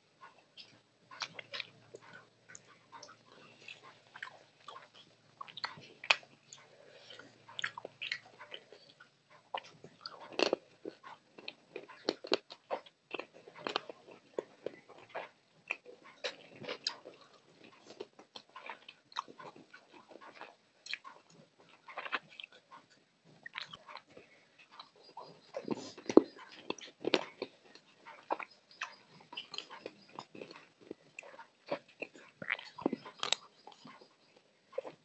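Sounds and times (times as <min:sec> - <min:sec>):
wet chewing and lip smacking: 0:00.3 - 0:35.0.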